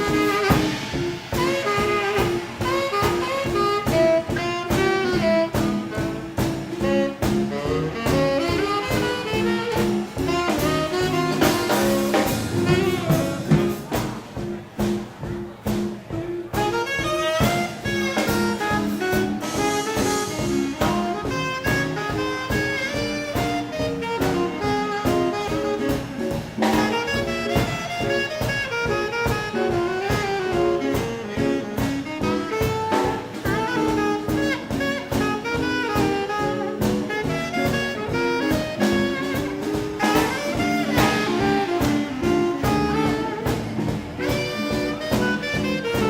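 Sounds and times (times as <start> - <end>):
drum kit: 0.0 - 46.0
saxophone melody: 0.0 - 46.0
swing band playing: 0.0 - 46.0.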